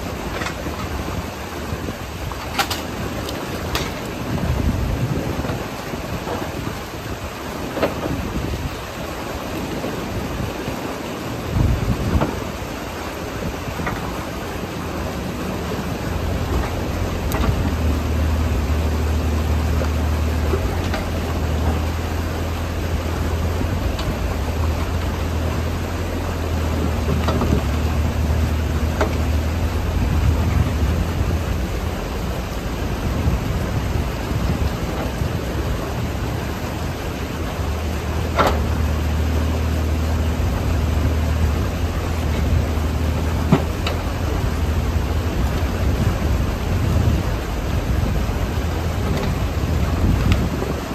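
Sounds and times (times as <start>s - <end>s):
mini excavator engine running: 0.0s - 50.9s
water rushing over a dam: 0.0s - 50.9s.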